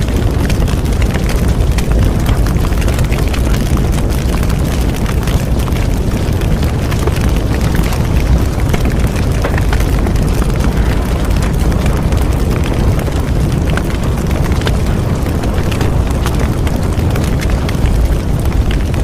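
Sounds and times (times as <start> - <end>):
bonfire flames rumbling: 0.0 - 19.0
wood crackling and popping: 0.0 - 19.0.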